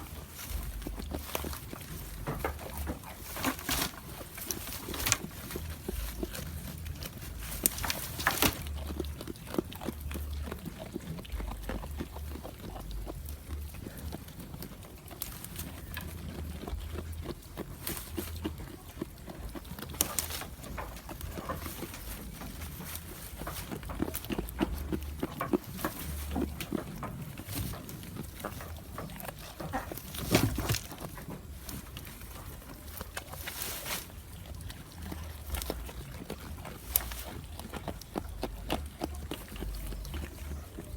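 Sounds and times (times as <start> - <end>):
goat chewing crunchy food: 0.0 - 40.9.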